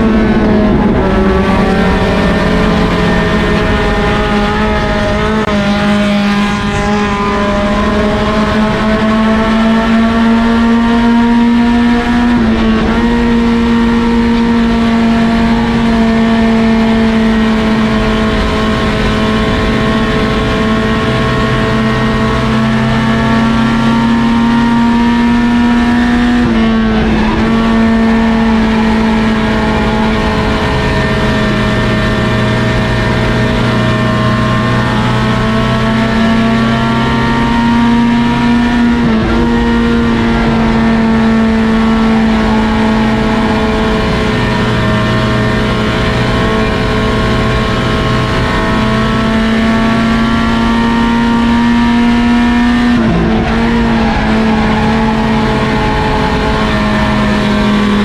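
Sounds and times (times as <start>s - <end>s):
race car engines at high revs: 0.0s - 58.0s.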